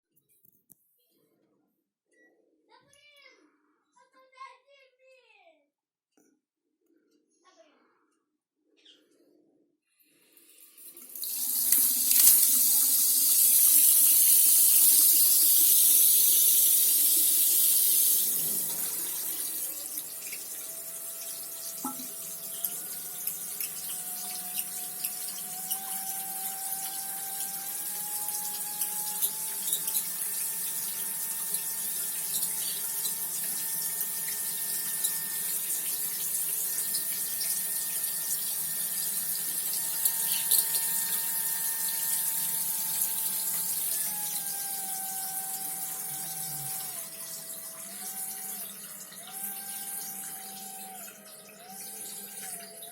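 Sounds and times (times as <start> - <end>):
water rushing through plumbing: 10.2 - 52.9.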